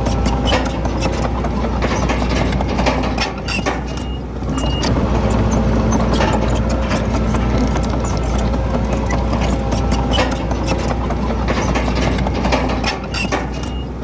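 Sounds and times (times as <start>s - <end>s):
diesel earthmover rumbling: 0.0s - 14.0s.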